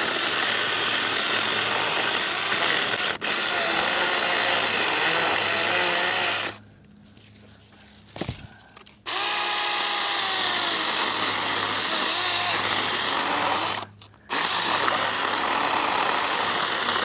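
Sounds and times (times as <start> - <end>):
chainsaw cutting wood: 0.0 - 6.6, 9.1 - 17.0.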